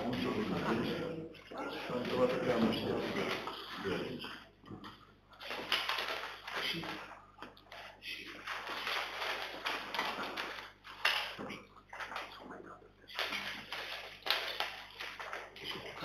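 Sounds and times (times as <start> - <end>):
rustling and handling noises: 0.0 - 16.0.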